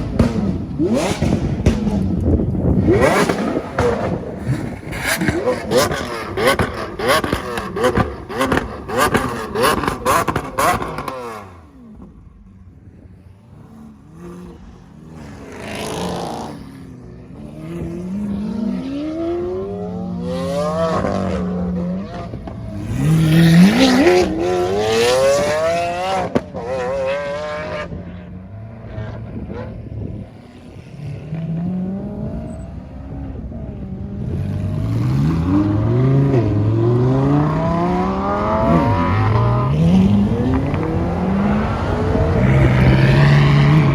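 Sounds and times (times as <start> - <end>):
sports car engines revving: 0.0 - 43.9.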